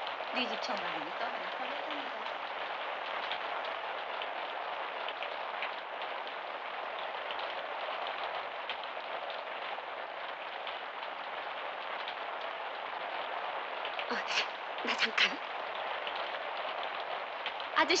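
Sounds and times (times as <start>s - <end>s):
raindrops ticking: 0.0s - 18.0s
steady rain hiss: 0.0s - 18.0s.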